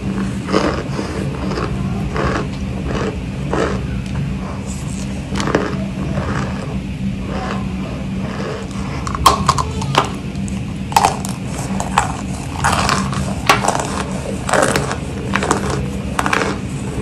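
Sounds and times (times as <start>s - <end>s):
person crunching and chewing: 0.0s - 17.0s
steady low hum: 0.0s - 17.0s.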